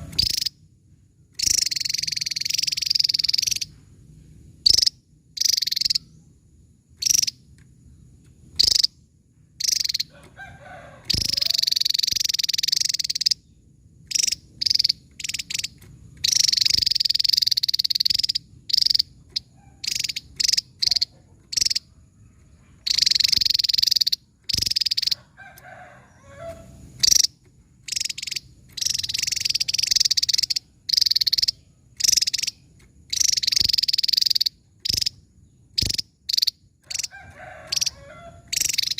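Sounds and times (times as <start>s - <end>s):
buzzy bird trills: 0.0s - 0.7s, 1.4s - 6.4s, 7.0s - 38.9s.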